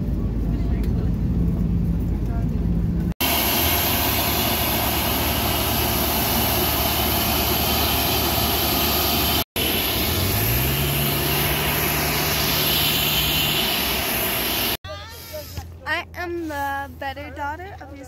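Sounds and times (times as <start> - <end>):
jet aircraft noise: 0.0 - 14.8.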